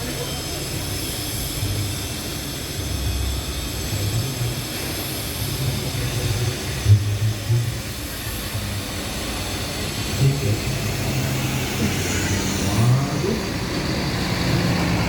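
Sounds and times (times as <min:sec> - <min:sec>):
heavy vehicle engine rumble: 0:00.0 - 0:15.0.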